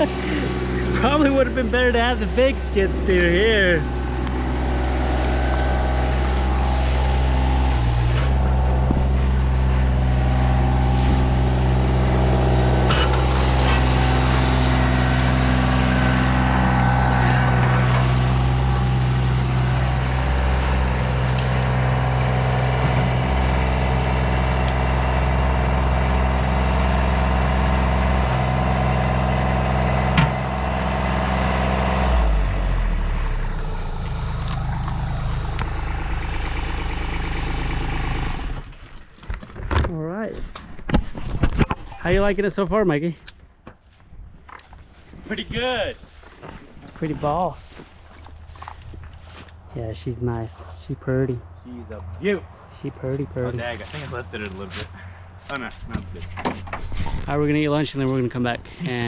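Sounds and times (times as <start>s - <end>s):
small loader engine running: 0.0s - 39.6s, 44.5s - 49.8s, 50.5s - 59.0s.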